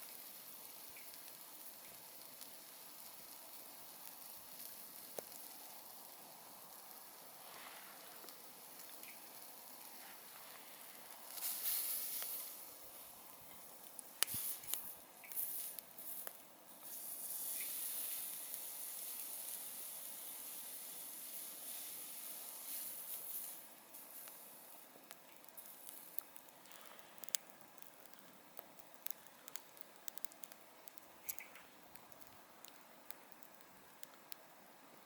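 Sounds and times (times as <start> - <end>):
campfire crackling and hissing: 0.0 - 35.0.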